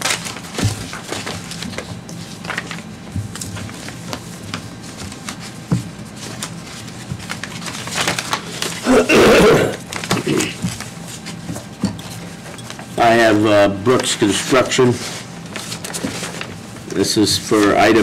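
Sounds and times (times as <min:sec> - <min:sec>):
papers rustling and clicks: 0:00.0 - 0:09.0, 0:09.8 - 0:13.0, 0:13.9 - 0:18.0
low room hum: 0:00.0 - 0:18.0.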